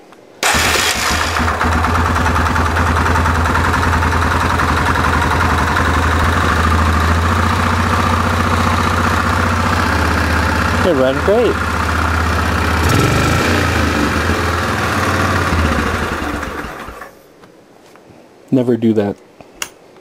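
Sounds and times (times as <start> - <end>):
atv engine idling: 0.4 - 17.1.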